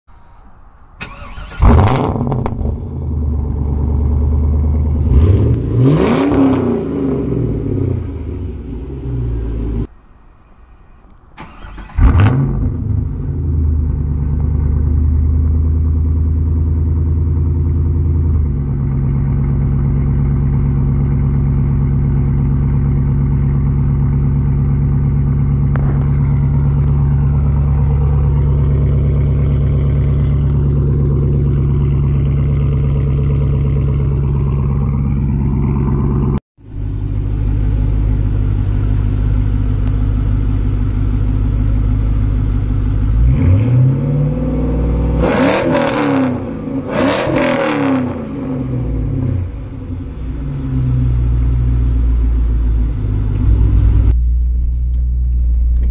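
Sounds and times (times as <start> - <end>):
car engine idling: 0.1 - 43.6, 44.4 - 55.9
car engine starting and revving: 1.0 - 9.9, 11.3 - 55.9.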